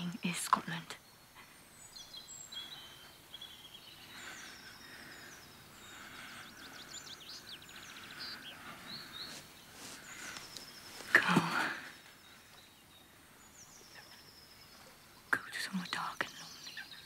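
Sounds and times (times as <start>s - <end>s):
faint outdoor hiss: 0.0s - 17.0s
songbirds singing: 0.0s - 17.0s.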